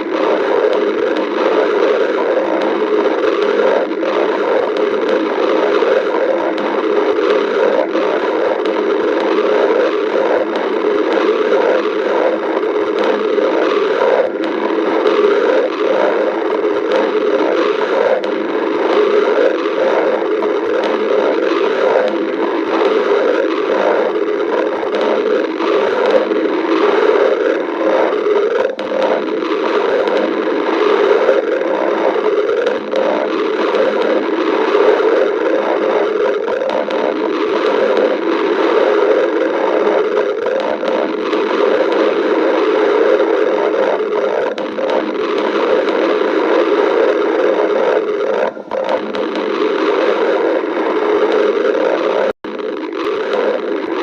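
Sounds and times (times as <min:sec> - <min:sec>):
stomach growling: 0:00.0 - 0:54.0.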